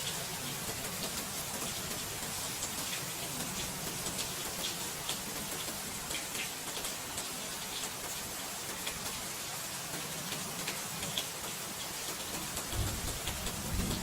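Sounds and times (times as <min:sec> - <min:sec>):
raindrops tapping: 0:00.0 - 0:14.0
steady rain falling: 0:00.0 - 0:14.0.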